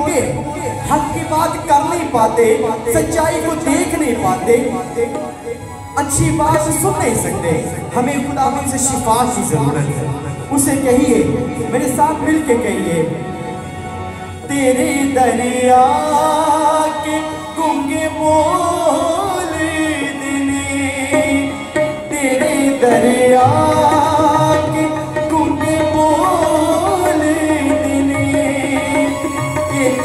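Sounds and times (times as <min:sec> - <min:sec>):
harmonium playing: 0:00.0 - 0:30.0
man singing into a microphone: 0:00.0 - 0:30.0.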